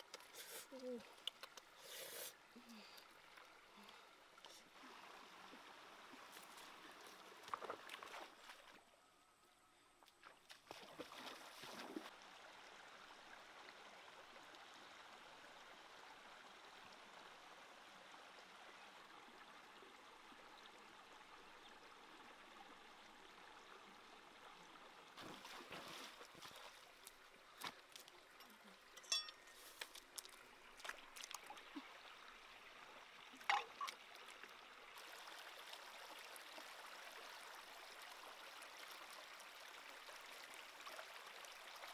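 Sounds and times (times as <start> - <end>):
stream running over rocks: 0.0 - 8.9, 10.2 - 41.9.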